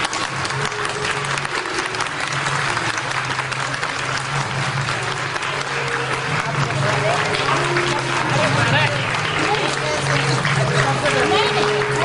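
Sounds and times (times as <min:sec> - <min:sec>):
people applauding: 0:00.0 - 0:12.0.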